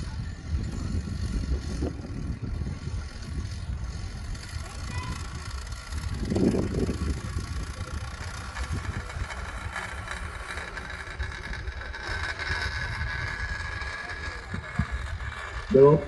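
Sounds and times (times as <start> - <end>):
motor rumbling: 0.0 - 16.0.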